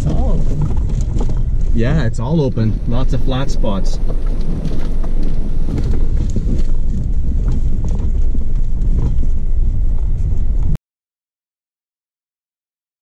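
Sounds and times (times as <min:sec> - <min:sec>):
knocks and rattles: 0:00.0 - 0:10.8
vehicle engine and tyres rumbling: 0:00.0 - 0:10.8.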